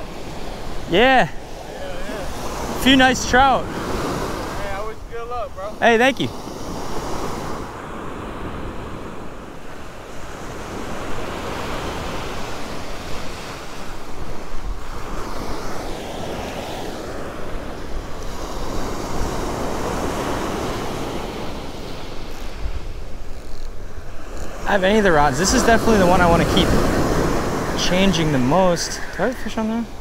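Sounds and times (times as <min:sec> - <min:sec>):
wind buffeting microphone: 0:00.0 - 0:05.6, 0:06.3 - 0:30.0
ocean surf breaking on beach: 0:00.0 - 0:30.0.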